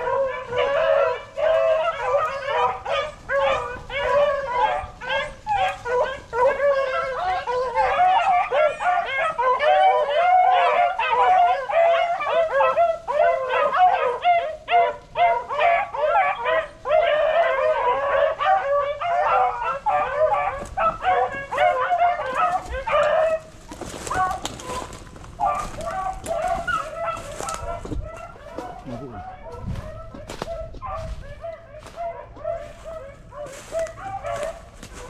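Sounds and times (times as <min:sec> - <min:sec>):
dogs baying and howling: 0:00.0 - 0:35.0.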